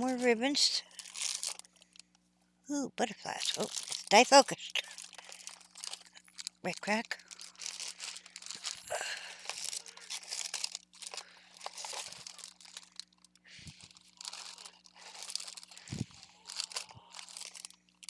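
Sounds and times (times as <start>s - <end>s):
plastic bags crinkling: 0.0s - 2.2s, 3.0s - 18.0s.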